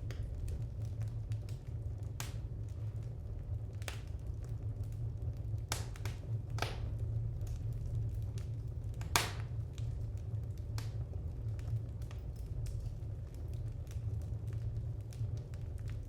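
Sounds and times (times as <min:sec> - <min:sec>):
low fire rumble: 0:00.0 - 0:16.0
wood fire crackling and popping: 0:00.0 - 0:16.0.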